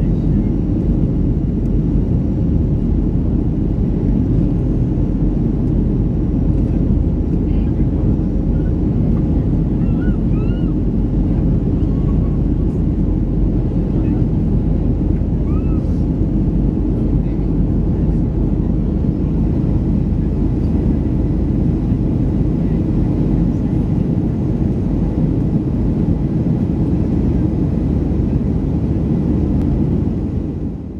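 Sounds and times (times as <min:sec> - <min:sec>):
jet engines low rumble: 0:00.0 - 0:30.9.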